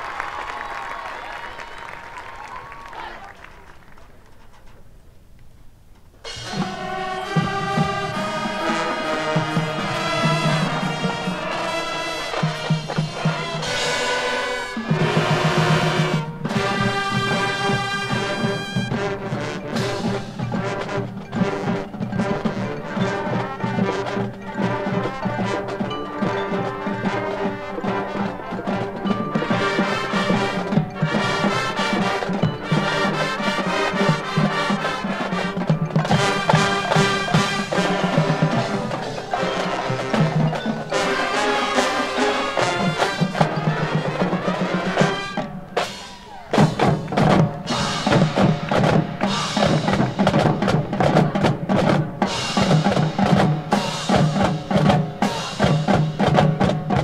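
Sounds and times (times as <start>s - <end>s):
marching band brass: 6.2s - 57.0s
percussion: 6.2s - 57.0s.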